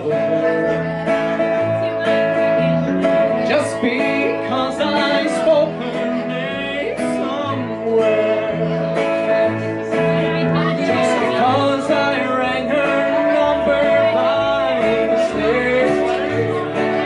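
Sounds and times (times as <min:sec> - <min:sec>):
person singing: 0:00.0 - 0:02.0, 0:03.2 - 0:17.0
acoustic guitar: 0:00.0 - 0:17.0
country band playing live: 0:00.0 - 0:17.0
electric guitar: 0:00.0 - 0:17.0
upright bass: 0:00.0 - 0:17.0.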